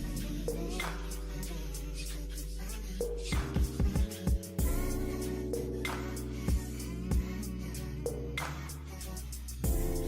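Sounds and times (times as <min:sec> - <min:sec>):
background music with beat: 0:00.0 - 0:10.0
deep bass hits: 0:00.0 - 0:10.0.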